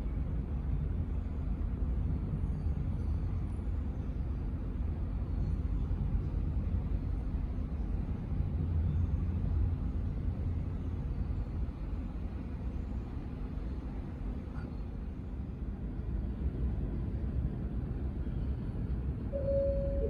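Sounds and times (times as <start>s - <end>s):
airport background rumble: 0.0s - 20.0s.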